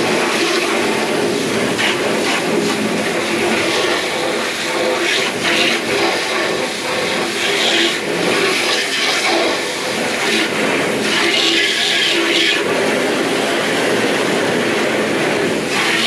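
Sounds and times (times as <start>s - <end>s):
water filling a trough: 0.0s - 16.0s.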